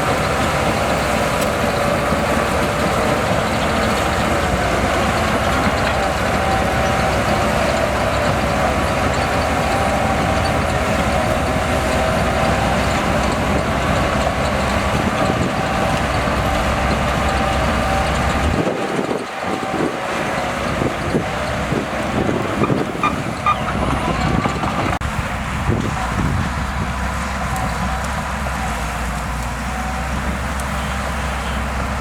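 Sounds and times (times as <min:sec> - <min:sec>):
bulldozer diesel engine droning: 0:00.0 - 0:32.0.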